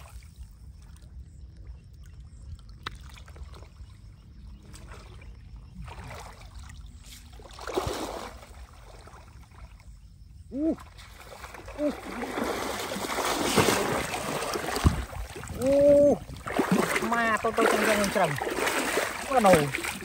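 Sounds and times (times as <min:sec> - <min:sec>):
pond water sloshing and splashing: 0:00.0 - 0:20.0.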